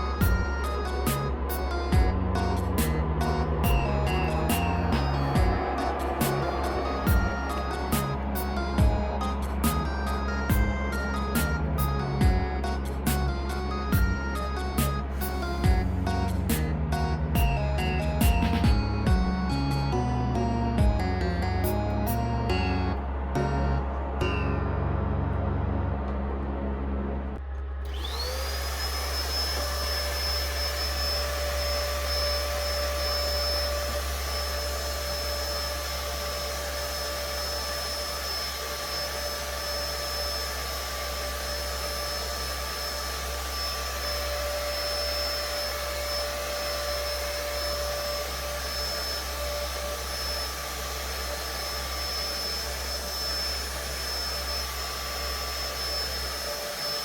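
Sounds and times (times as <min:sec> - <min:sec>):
vacuum cleaner running: 0:00.0 - 0:22.2, 0:27.5 - 0:57.0.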